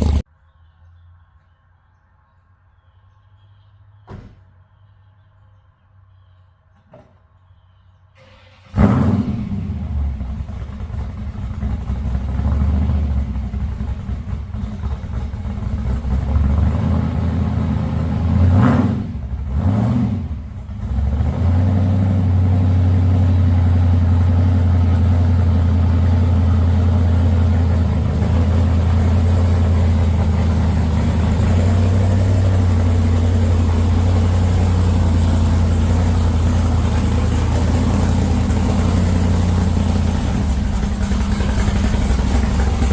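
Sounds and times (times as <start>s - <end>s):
car engine revving and idling: 0.0s - 0.3s, 8.2s - 42.9s.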